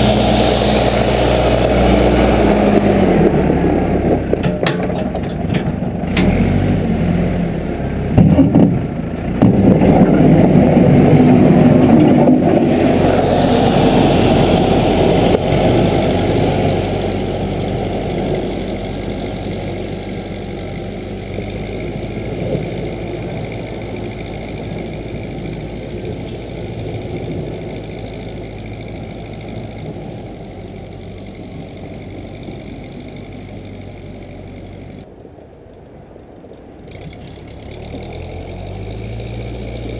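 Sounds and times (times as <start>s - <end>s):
backhoe engine running: 0.0s - 35.1s, 36.6s - 39.9s.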